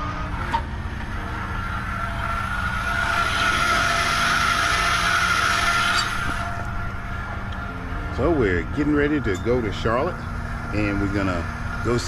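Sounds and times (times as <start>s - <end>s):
steady whine: 0.0s - 12.0s
vehicle engine idling: 0.0s - 12.0s.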